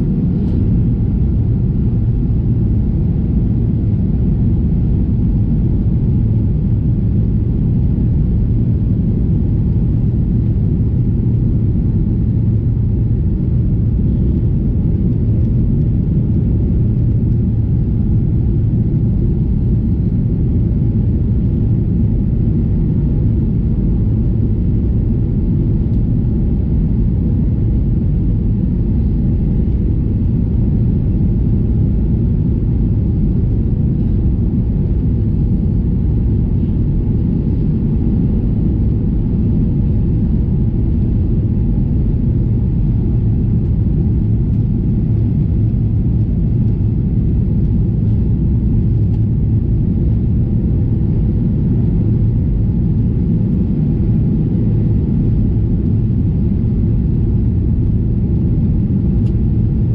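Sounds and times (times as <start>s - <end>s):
airplane cabin rumble: 0.0s - 59.9s
faint steady hum: 0.0s - 59.9s.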